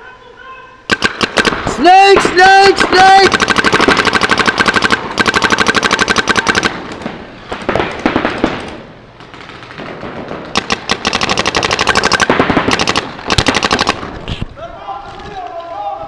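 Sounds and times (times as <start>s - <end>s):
paintball marker firing: 0.9s - 14.2s.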